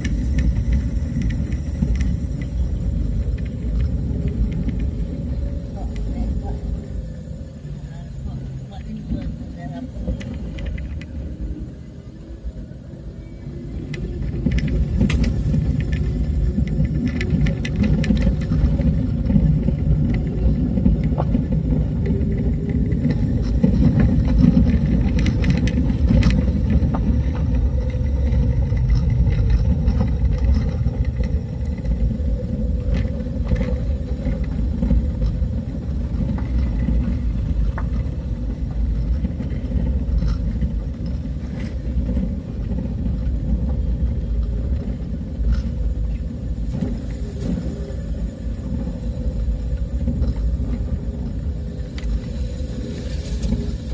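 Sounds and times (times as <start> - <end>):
vehicle rumbling along a road: 0.0 - 53.9.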